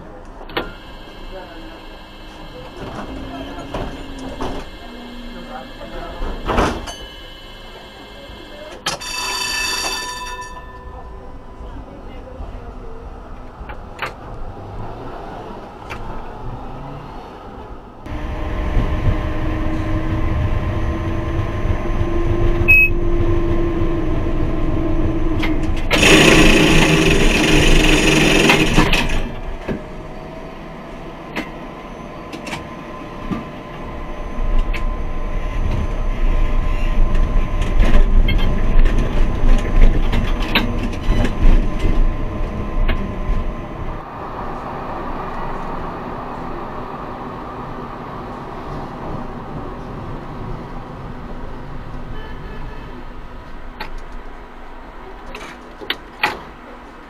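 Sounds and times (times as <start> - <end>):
tram rumbling on track: 0.0 - 57.0.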